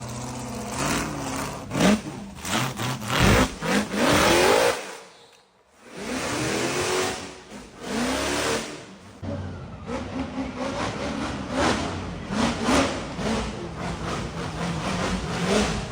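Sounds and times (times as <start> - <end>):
off-road vehicle engine revving: 0.0 - 5.1, 5.8 - 15.9.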